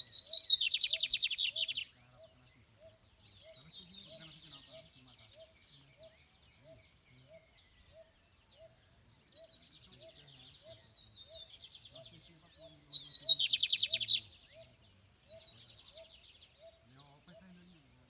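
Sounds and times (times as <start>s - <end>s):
bird chirps and trill: 0.0s - 18.0s.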